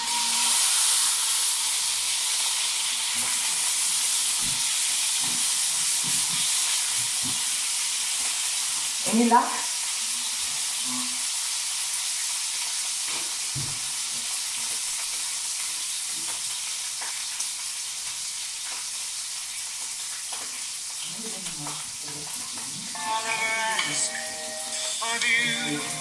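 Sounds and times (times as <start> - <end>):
food sizzling in pans: 0.0 - 26.0.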